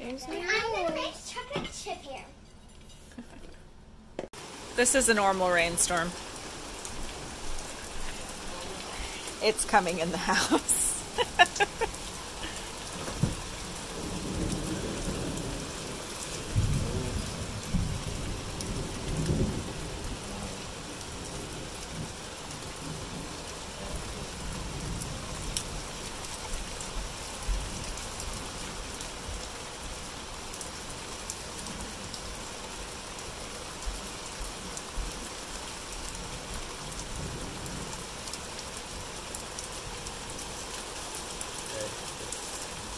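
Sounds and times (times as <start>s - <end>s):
rain pouring on lawn and deck: 0.0s - 2.2s, 4.4s - 42.9s
raindrops ticking on surfaces: 4.2s - 42.9s.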